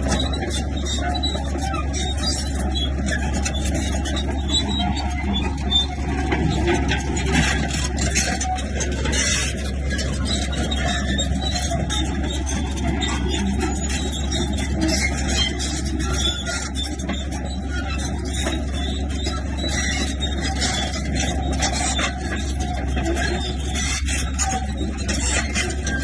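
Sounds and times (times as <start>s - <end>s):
bulldozer diesel engine droning: 0.0s - 26.0s
clatter and scraping: 0.0s - 26.0s.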